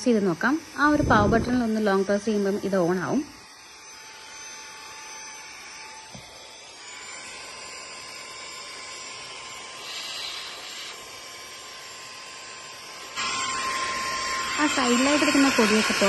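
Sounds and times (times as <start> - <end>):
handheld vacuum cleaner running: 0.0 - 16.0.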